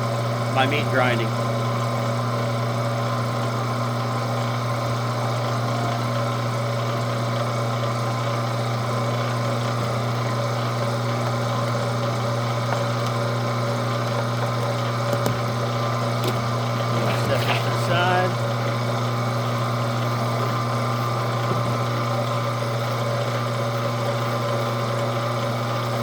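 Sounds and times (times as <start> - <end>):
electric meat grinder humming: 0.0 - 26.0.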